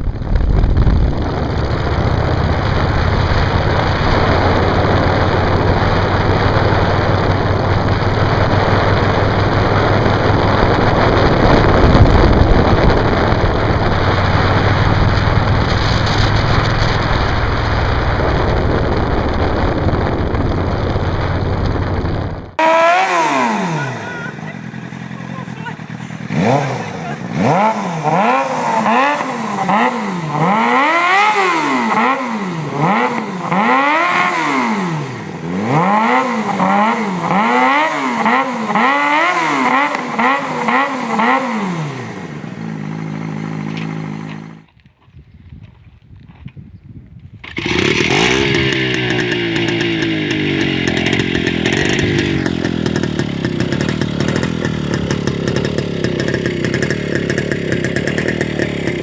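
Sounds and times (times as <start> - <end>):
motorcycle engine revving: 0.0 - 44.8, 47.4 - 59.0.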